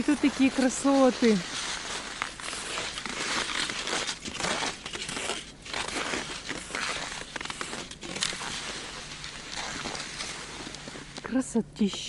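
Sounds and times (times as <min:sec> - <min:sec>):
skis crunching on frozen snow: 0:00.0 - 0:12.0.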